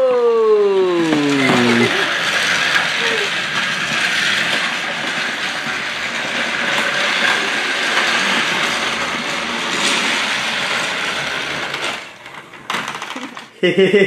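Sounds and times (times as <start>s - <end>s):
wheels rolling over track joints: 0.7s - 13.6s
toy train motor whirring: 0.8s - 13.6s.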